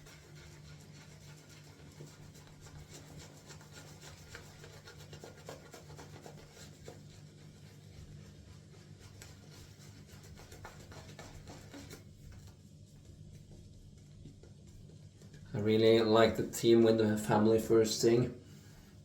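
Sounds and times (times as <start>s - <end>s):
low steady hum: 0.0s - 19.0s
shaving brush rubbing lather: 0.0s - 19.0s.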